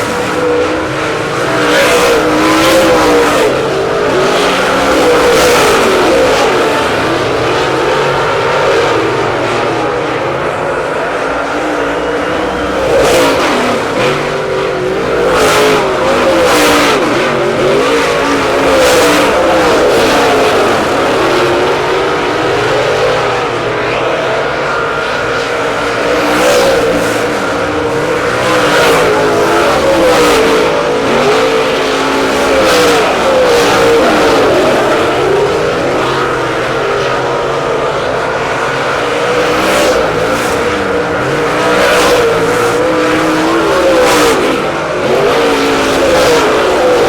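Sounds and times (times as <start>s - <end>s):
cars passing close: 0.0s - 47.0s
race car engines: 0.0s - 47.0s.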